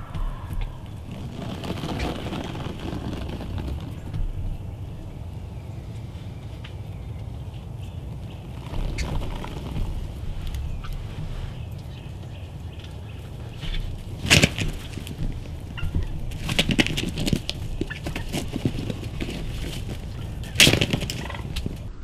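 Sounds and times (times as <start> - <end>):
turkey wings beating: 0.0 - 22.0.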